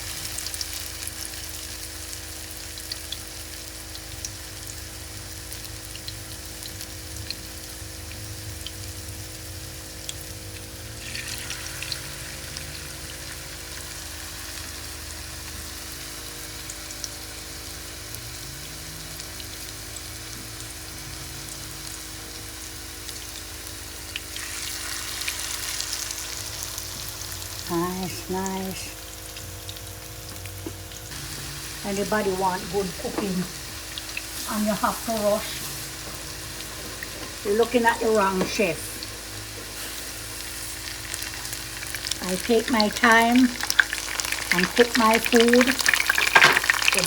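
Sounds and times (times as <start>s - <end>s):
faint steady hum: 0.0s - 47.0s
food frying in hot oil: 0.0s - 47.0s.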